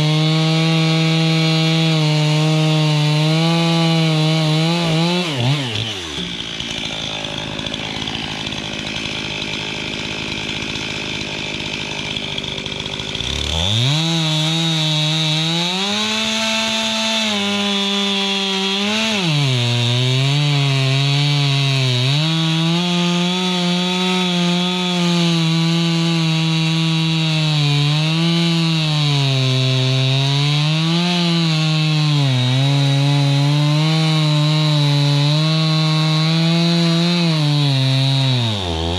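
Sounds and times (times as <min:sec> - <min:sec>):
chainsaw cutting log: 0:00.0 - 0:38.9
chainsaw idling: 0:00.0 - 0:38.9.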